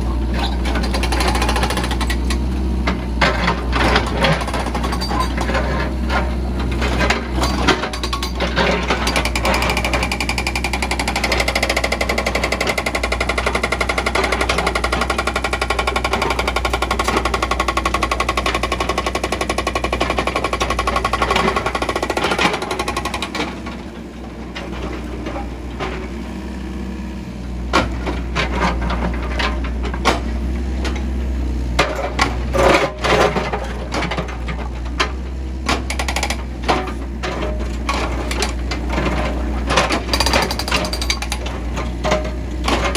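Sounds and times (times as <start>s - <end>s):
diesel engine clattering: 0.0s - 42.9s.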